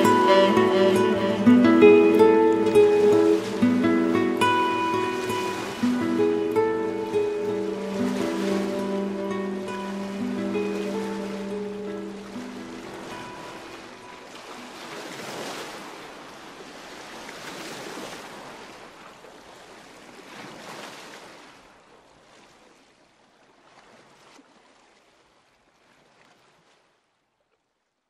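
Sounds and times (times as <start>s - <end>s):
ocean waves washing in: 0.0s - 23.1s.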